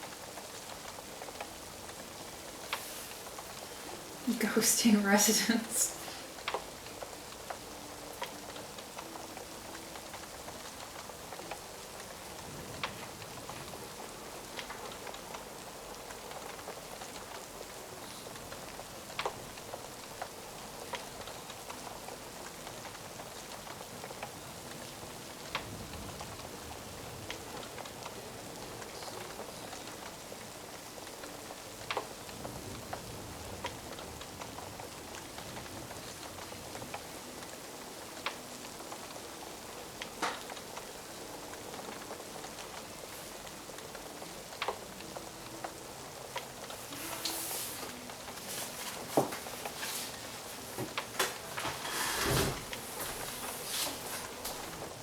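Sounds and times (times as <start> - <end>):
fire crackling and popping: 0.0 - 55.0
steady rain falling: 0.0 - 55.0.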